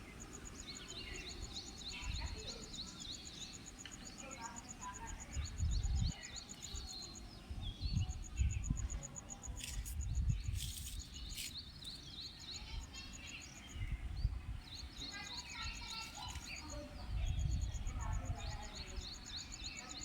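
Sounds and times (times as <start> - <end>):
birds chirping and chattering: 0.0 - 20.0.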